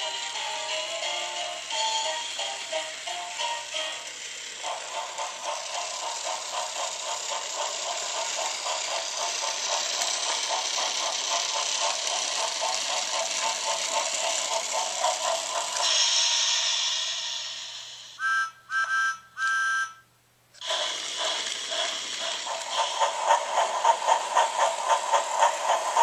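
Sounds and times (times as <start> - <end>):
toy train motor rattling: 0.0 - 19.0, 20.6 - 26.0.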